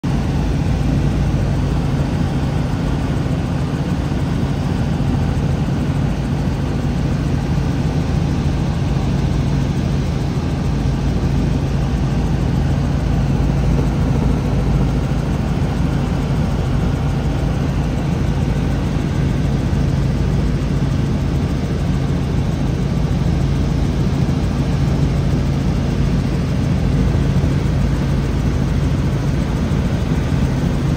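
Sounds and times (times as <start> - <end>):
small aircraft engine drone: 0.0 - 30.9.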